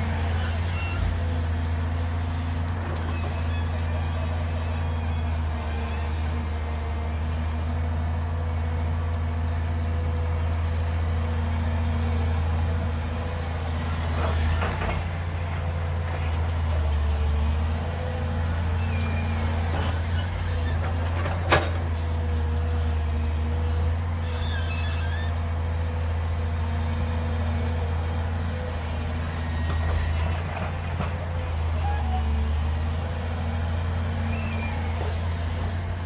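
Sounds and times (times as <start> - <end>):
diesel excavator engine: 0.0 - 36.0.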